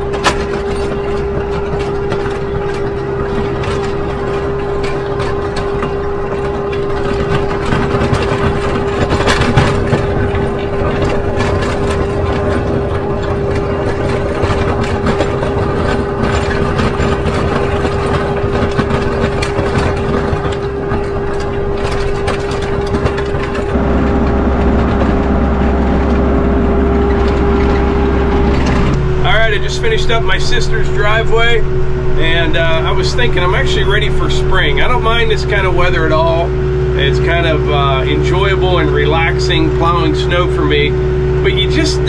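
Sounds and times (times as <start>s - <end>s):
tractor diesel engine whine: 0.0s - 42.0s.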